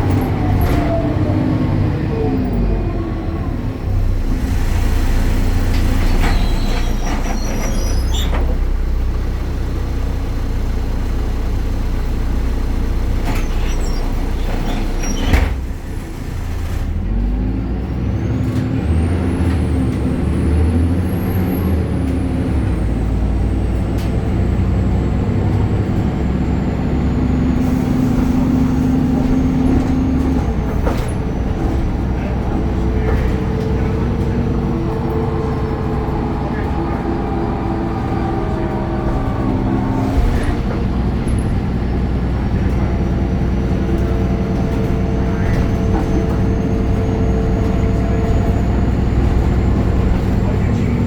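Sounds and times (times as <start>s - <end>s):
city bus diesel engine: 0.0s - 51.0s.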